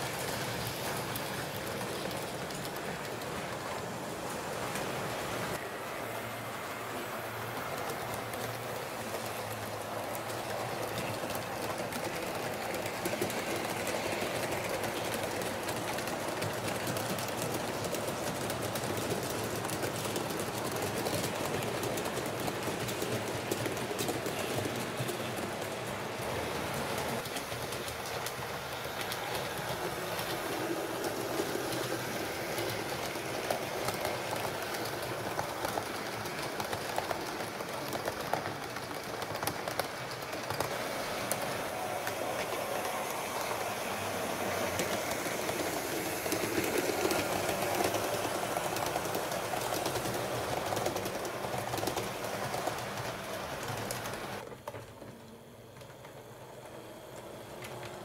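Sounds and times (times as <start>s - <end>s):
model train wheels rattling: 6.9s - 58.0s.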